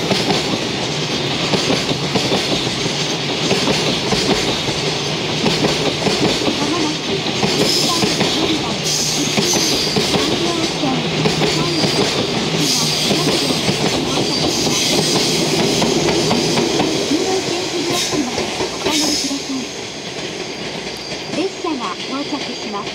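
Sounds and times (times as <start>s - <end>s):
electric locomotive passing: 0.0s - 22.9s
train wheels clacking over rail joints: 0.0s - 22.9s.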